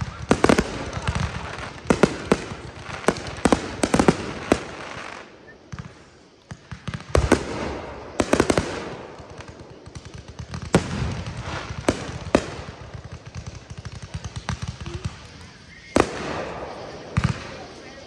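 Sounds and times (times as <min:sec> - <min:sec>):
fireworks booming: 0:00.0 - 0:18.0
fireworks crackling pops: 0:00.0 - 0:18.0.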